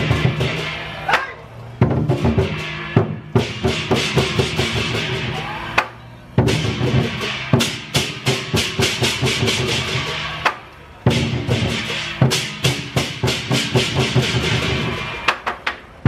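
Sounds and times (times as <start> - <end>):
fast drum strikes: 0.0 - 15.6.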